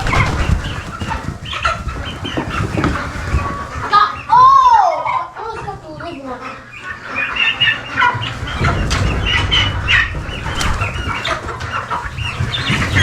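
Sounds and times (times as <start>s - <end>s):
turkeys calling: 0.0s - 13.0s
wings flapping and scuffling: 0.0s - 13.0s.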